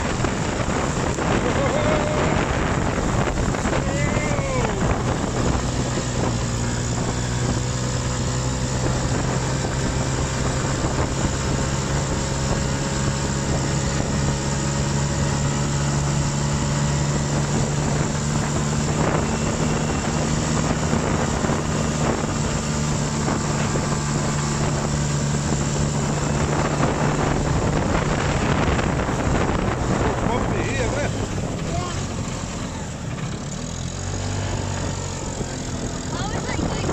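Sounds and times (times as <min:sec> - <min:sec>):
off-road buggy engine running: 0:00.0 - 0:36.9.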